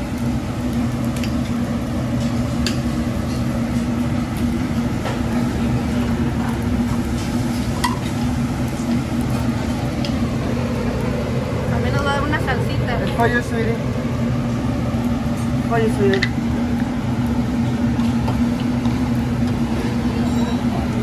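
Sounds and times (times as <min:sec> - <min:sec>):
exhaust hood hum: 0:00.0 - 0:21.0
food sizzling on a griddle: 0:00.0 - 0:21.0.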